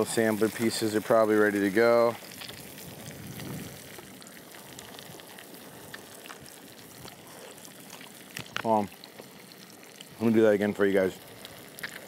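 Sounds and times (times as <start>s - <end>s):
hot oil sizzling with crackles: 0.0s - 12.0s.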